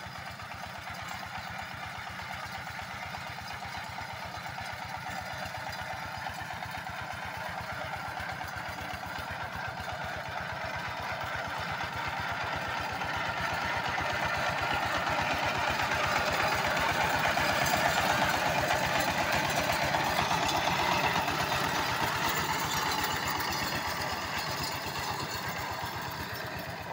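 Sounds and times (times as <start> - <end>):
diesel power tiller running: 0.0 - 26.9.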